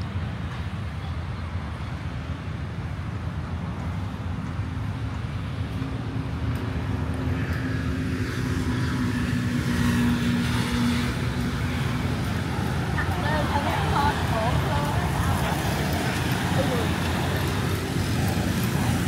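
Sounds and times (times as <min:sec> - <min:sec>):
street traffic rumble: 0:00.0 - 0:19.0
vehicle engine hum: 0:00.0 - 0:19.0.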